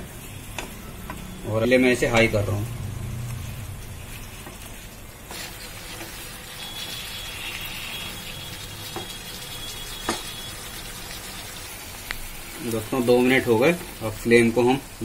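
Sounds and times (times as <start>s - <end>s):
chicken sizzling in pan: 1.5s - 15.0s.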